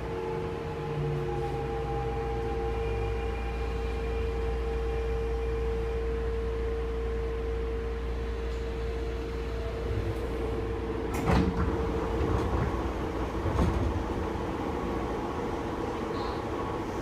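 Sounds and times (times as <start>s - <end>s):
train electrical hum: 0.0s - 17.0s.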